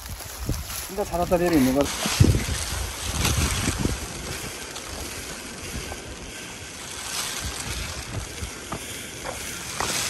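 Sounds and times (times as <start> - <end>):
falling rain: 0.0 - 10.0
wind buffeting microphone: 0.0 - 10.0.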